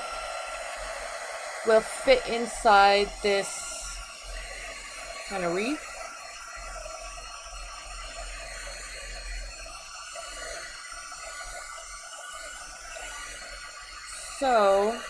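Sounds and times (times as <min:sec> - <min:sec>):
handheld craft dryer blowing air: 0:00.0 - 0:15.0.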